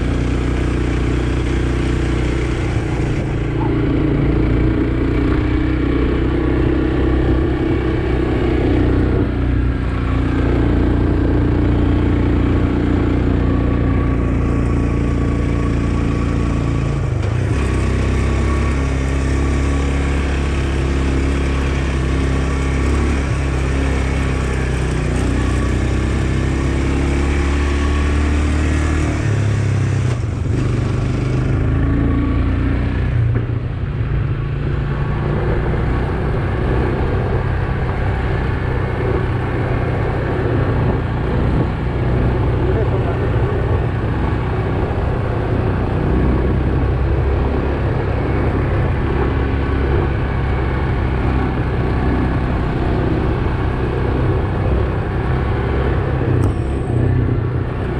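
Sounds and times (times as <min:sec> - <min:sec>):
quad bike engine running: 0:00.0 - 0:57.9.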